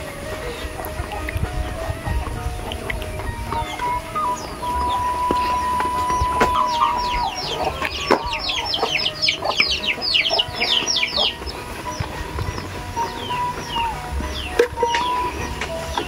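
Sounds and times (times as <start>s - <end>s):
background music: 0.0s - 16.0s
chickens calling: 0.0s - 16.0s
high falling peeps: 0.0s - 16.0s.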